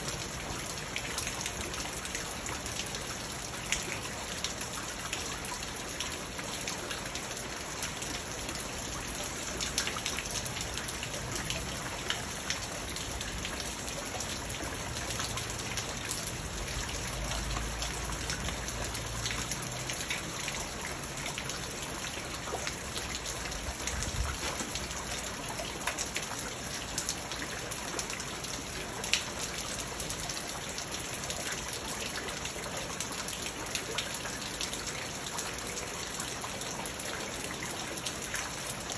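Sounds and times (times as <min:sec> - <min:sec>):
rain falling on pond: 0:00.0 - 0:38.9.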